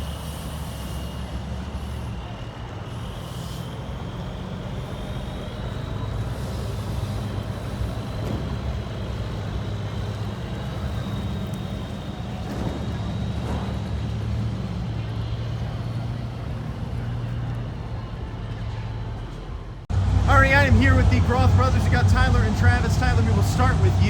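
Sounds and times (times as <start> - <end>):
large vehicle engine droning: 0.0 - 24.0.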